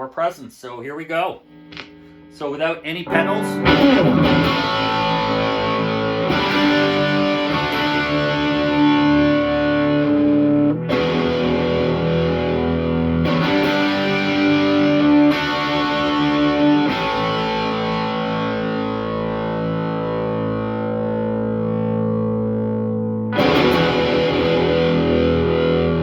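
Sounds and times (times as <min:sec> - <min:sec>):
overdriven electric guitar chords: 0:01.5 - 0:26.0.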